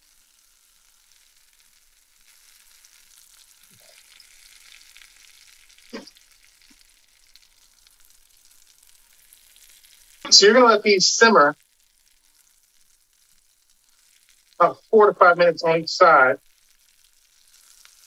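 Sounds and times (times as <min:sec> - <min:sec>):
patties sizzling in a frying pan: 0:00.0 - 0:15.4, 0:16.0 - 0:18.0.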